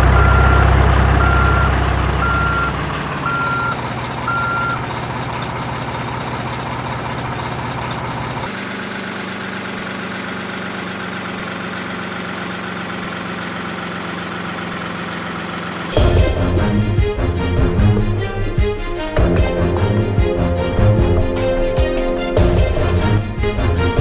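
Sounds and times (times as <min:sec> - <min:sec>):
heavy vehicle engine idling: 0:00.0 - 0:24.0.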